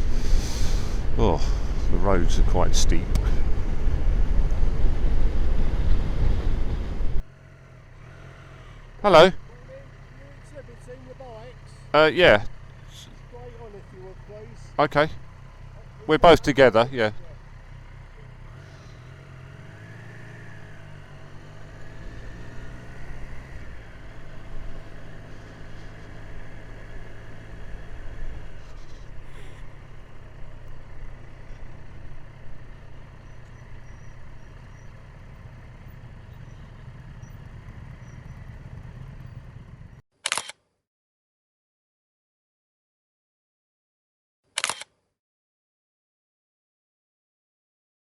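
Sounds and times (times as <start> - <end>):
road noise: 0.0 - 40.0
vehicle engine droning: 0.0 - 40.0.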